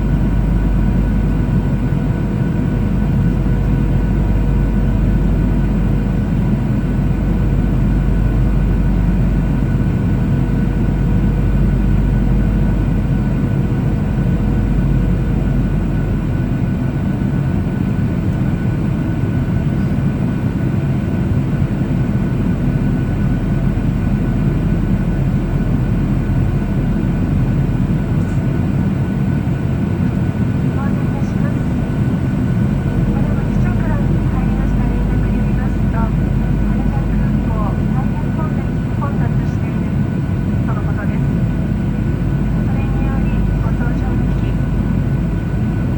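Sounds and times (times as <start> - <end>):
airplane engines and airflow rumble: 0.0 - 45.9.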